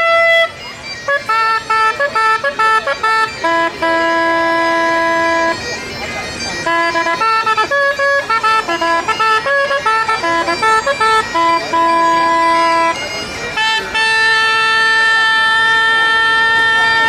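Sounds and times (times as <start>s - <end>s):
wind instrument playing a tune: 0.0s - 17.0s.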